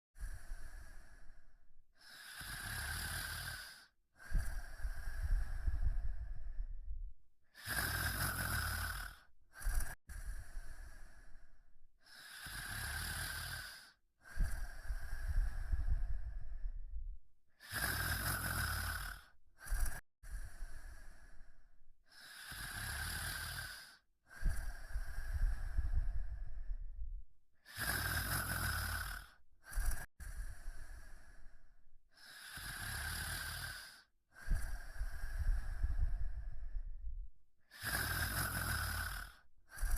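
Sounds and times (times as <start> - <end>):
snoring: 0.2 - 17.0, 17.6 - 39.9.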